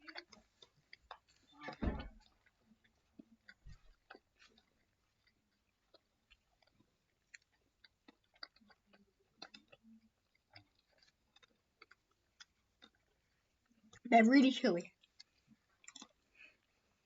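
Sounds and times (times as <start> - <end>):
soft chewing crunches: 0.0 - 17.0.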